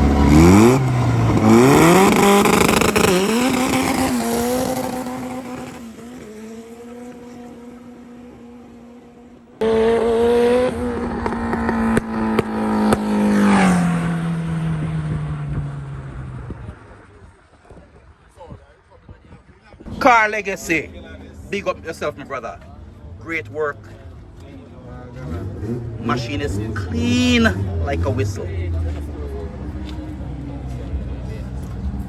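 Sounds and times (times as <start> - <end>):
car engine accelerating hard: 0.0 - 17.7, 19.8 - 32.0.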